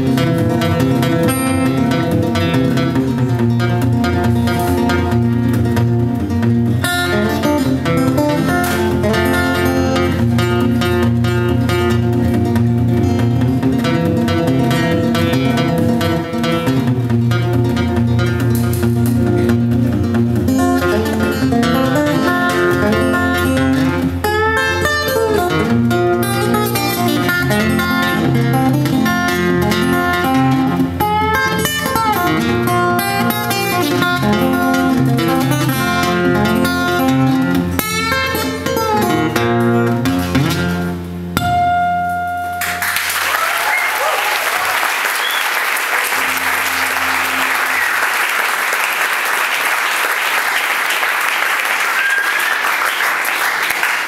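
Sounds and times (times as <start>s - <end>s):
fingerpicked acoustic guitar: 0.0s - 42.7s, 46.1s - 48.0s.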